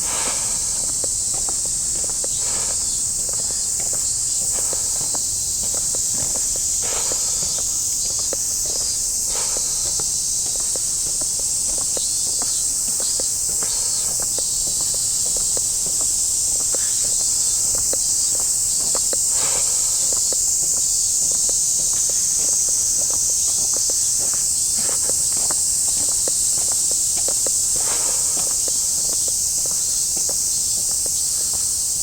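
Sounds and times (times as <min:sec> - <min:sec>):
cicadas buzzing: 0:00.0 - 0:32.0
footsteps walking: 0:00.0 - 0:32.0.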